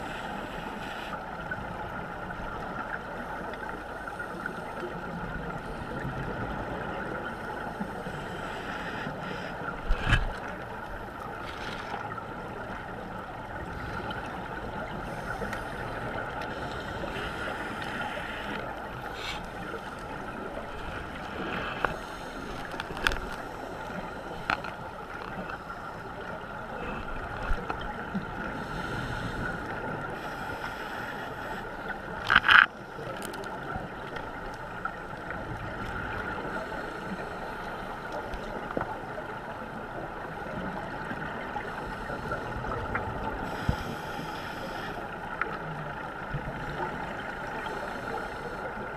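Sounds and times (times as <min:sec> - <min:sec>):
muffled underwater hiss: 0:00.0 - 0:48.9.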